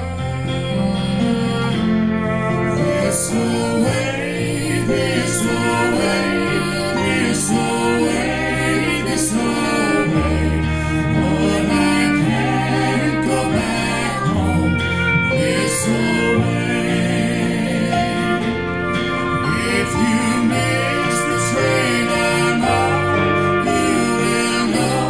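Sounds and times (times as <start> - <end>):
acoustic guitars: 0.0 - 25.0
electric bass: 0.0 - 25.0
woman singing: 2.8 - 18.4, 19.4 - 25.0.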